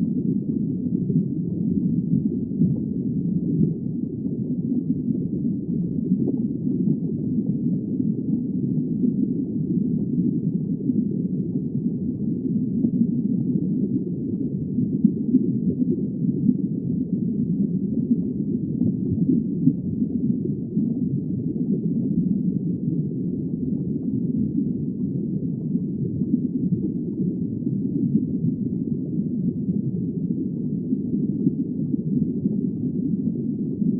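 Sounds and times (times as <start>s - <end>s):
muffled underwater water rumble: 0.0s - 33.9s.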